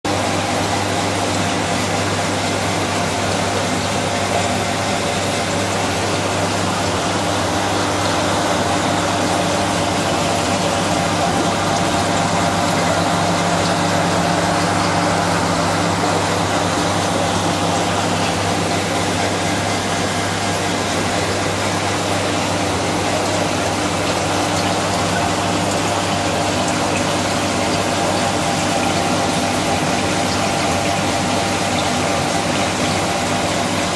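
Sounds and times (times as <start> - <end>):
aquarium pump humming: 0.1 - 33.9
water rushing: 0.1 - 33.9.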